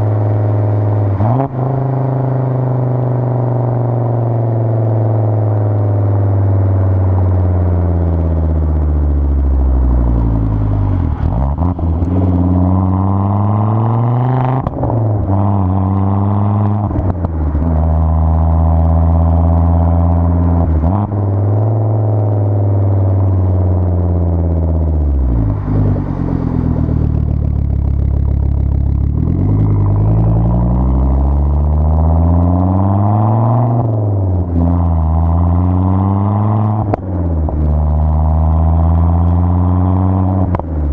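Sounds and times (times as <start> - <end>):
car engine revving under load: 0.0 - 40.9.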